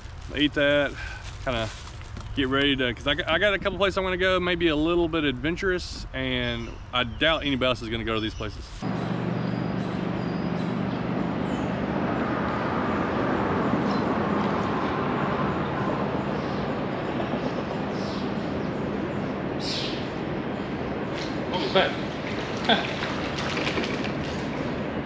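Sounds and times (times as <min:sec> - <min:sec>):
low engine hum: 0:00.0 - 0:25.0
road traffic rumble and tyre hiss: 0:00.0 - 0:25.0.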